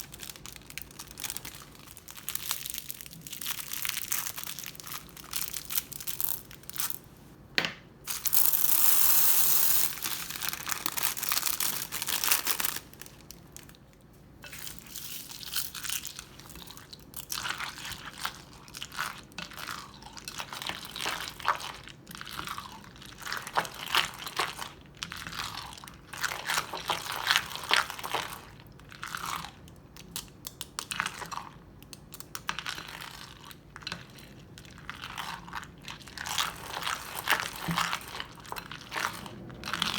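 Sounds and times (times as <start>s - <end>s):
crunchy slime crackling: 0.0s - 7.0s, 8.1s - 31.4s, 34.2s - 39.9s.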